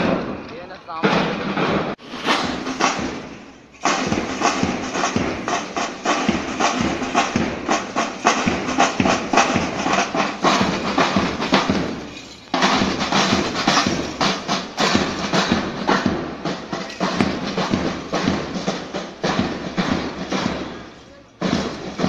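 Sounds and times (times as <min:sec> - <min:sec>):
side drums playing: 0:00.0 - 0:22.0.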